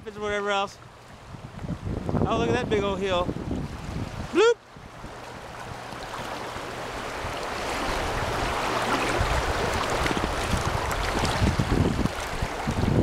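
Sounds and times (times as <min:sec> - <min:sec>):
river water rushing and splashing: 0:00.0 - 0:13.0.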